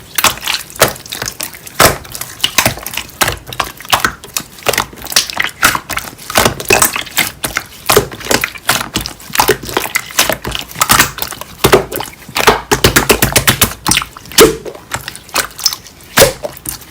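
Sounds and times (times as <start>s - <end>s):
slime clicking pops and crackles: 0.1s - 16.9s.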